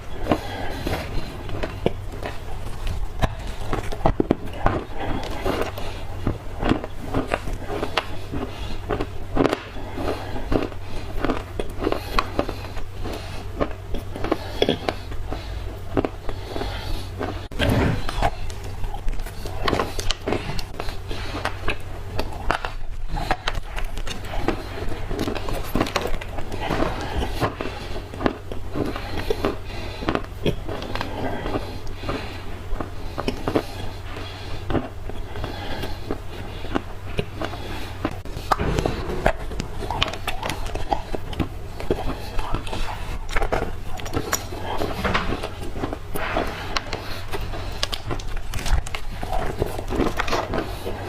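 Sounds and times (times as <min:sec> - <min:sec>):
clay being chewed crunching: 0:00.0 - 0:51.0
steady low hum: 0:00.0 - 0:51.0.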